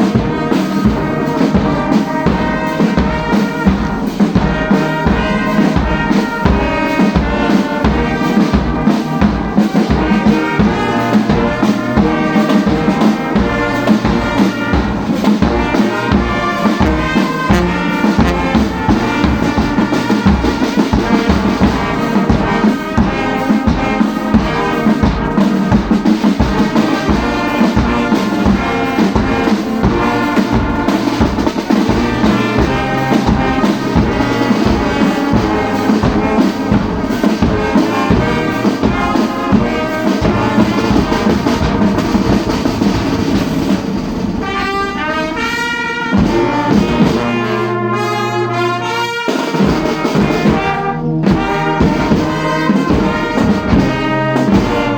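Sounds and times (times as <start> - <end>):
brass band playing: 0.0 - 54.9
steady drum beat: 0.0 - 54.9.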